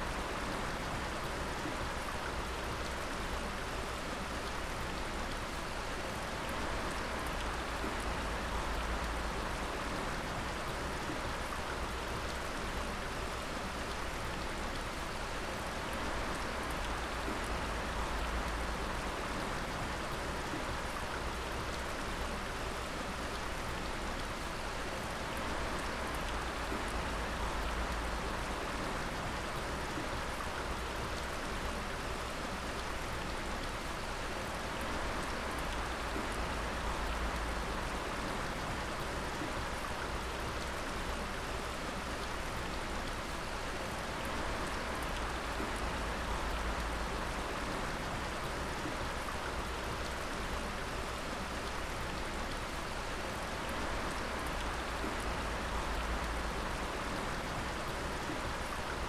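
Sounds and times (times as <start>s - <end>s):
water dripping onto rock and pools: 0.0s - 59.0s.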